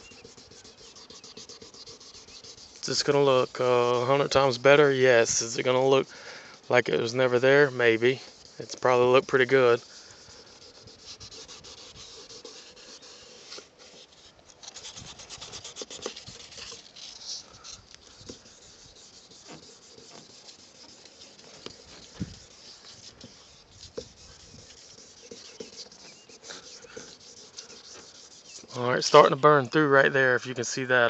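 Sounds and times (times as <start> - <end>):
sandpaper scratching plastic: 0.0 - 30.8.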